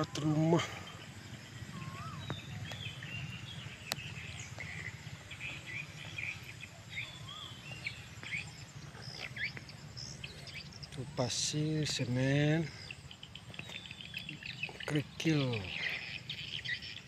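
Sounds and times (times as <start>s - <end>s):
birds chirping: 0.0s - 17.0s
low outdoor rumble: 0.0s - 17.0s
whistled bird notes: 0.0s - 17.0s.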